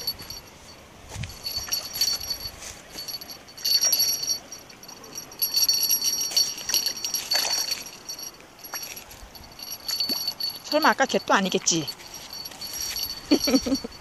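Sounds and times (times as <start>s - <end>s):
small bells jingling: 0.0s - 14.0s.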